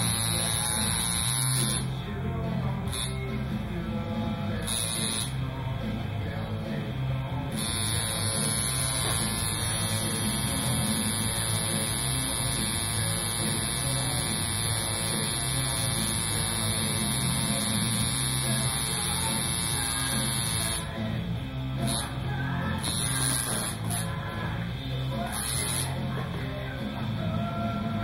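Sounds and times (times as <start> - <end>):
tattoo machine buzzing: 0.0 - 2.0, 2.8 - 3.4, 4.5 - 5.7, 7.4 - 26.4.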